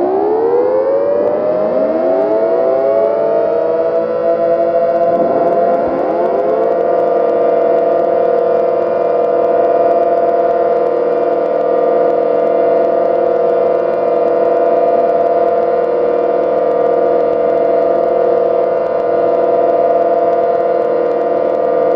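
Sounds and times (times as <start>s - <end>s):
synthesized siren wail: 0.0s - 21.9s.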